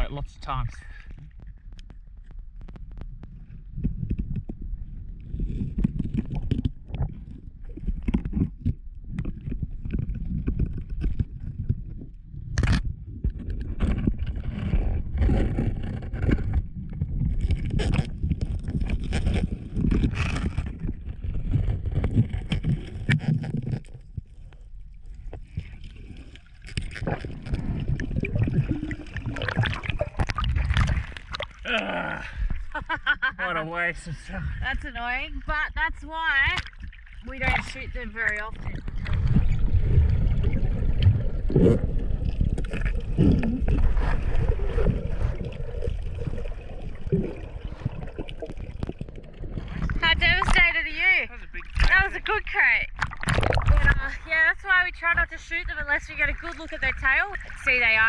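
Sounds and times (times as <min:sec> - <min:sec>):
muffled underwater rumbling: 0:00.0 - 0:58.0
underwater clicks and knocks: 0:01.0 - 0:31.6, 0:36.4 - 0:54.1.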